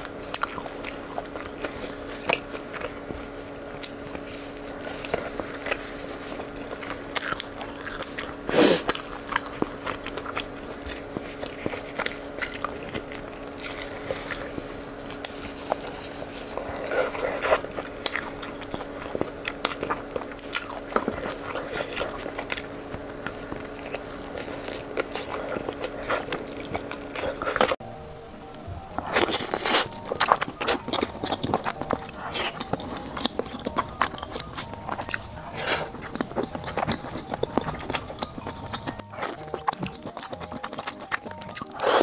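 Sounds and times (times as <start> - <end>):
chewing and biting meat: 0.0 - 27.8, 29.0 - 42.0
faint steady hum: 0.0 - 42.0.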